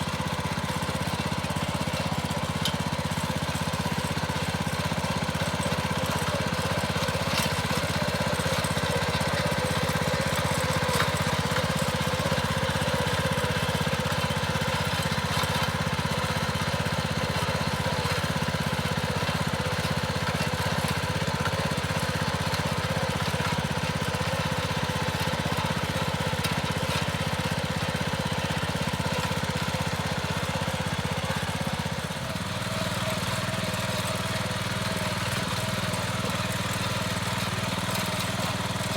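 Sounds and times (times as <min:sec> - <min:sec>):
tiller engine running: 0:00.0 - 0:38.9.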